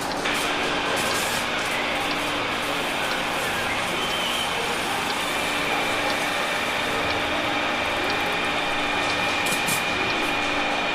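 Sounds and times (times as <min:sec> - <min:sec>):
machinery hum: 0:00.0 - 0:10.9.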